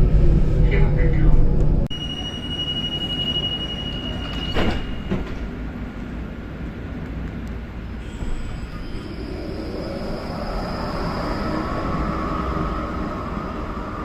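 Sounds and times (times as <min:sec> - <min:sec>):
tram doors shutting: 0:00.0 - 0:14.0
tram rumble: 0:00.0 - 0:14.0.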